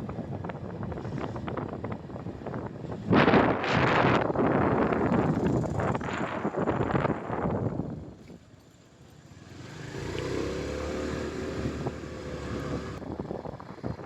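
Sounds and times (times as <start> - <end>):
wind buffeting microphone: 0.0 - 8.6, 9.4 - 14.0
motorcycle engine hum: 0.0 - 14.0.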